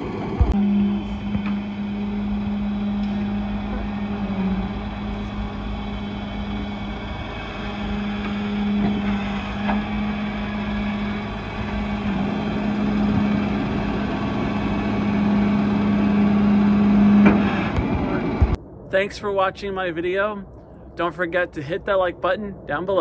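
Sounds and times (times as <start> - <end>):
low hum: 0.0 - 23.0
truck engine rumbling: 0.0 - 23.0.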